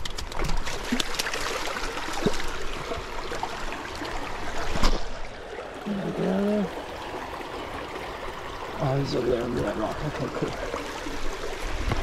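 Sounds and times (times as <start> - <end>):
creek water trickling over rocks: 0.0 - 12.0.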